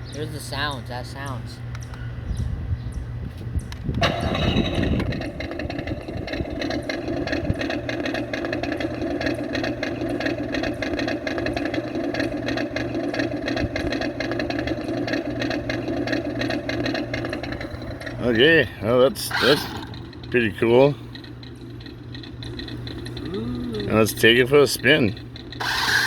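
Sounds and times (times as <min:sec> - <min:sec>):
toy speaker simulated engine idle: 0:04.0 - 0:26.0.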